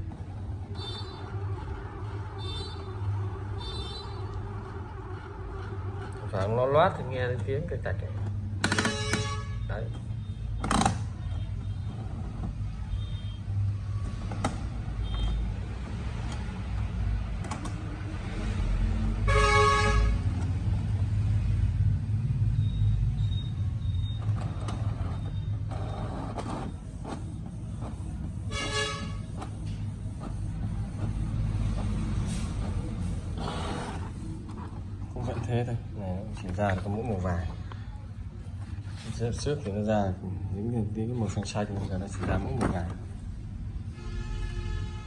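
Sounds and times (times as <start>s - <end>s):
printer mechanical hum: 0.0s - 45.0s.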